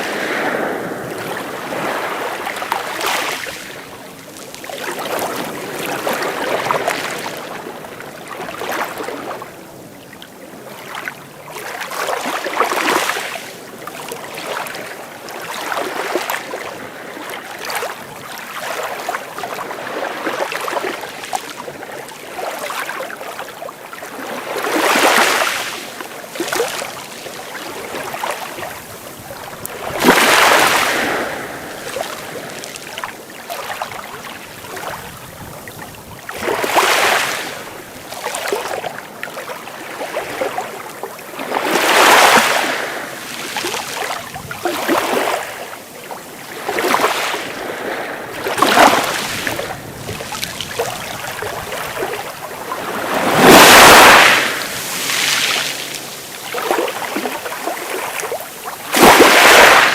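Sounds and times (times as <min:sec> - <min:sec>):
small waves washing on shore: 0:00.0 - 0:59.9.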